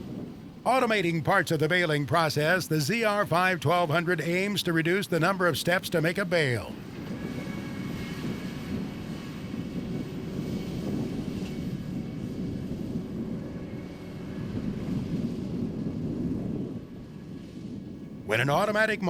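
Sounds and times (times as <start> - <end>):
baler engine droning: 0.0 - 19.0.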